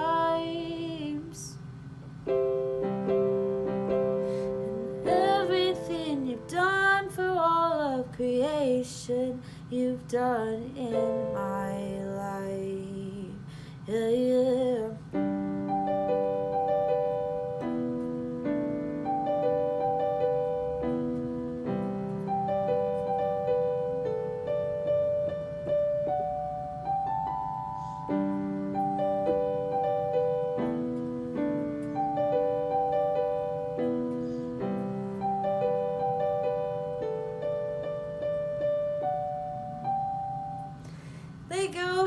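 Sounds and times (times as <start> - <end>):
solo piano broken chords: 0.0 - 42.0.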